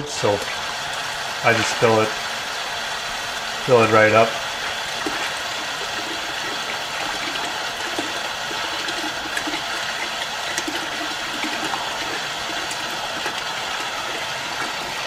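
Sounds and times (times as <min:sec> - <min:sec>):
hose water splashing into bucket: 0:00.0 - 0:15.0.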